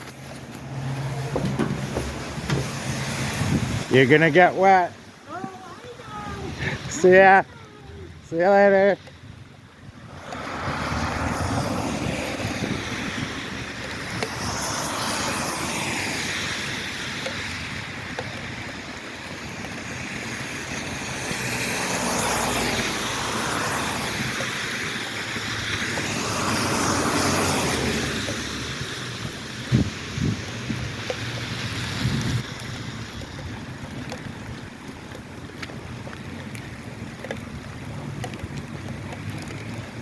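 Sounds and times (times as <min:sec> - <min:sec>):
tyre hiss on wet road: 0:00.0 - 0:08.8, 0:10.0 - 0:37.1.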